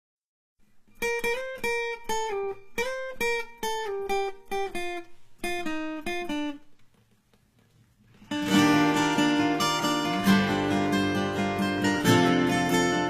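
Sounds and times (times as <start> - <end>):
acoustic guitar plucked melody: 0.6 - 13.0.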